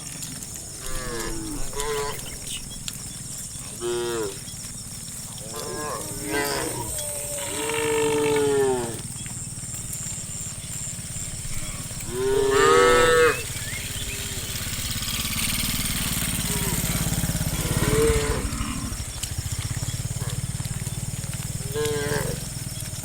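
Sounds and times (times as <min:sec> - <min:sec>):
cows mooing: 0:00.0 - 0:23.0.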